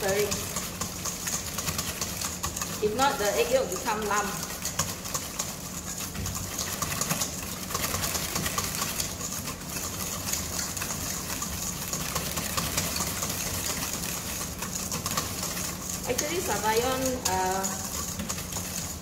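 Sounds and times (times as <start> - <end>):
whisk scraping metal bowl: 0.0 - 19.0.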